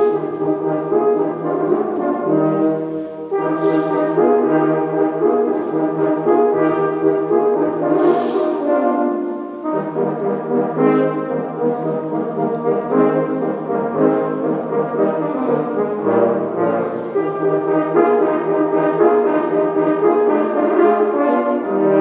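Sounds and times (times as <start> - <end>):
brass music: 0.0 - 22.0.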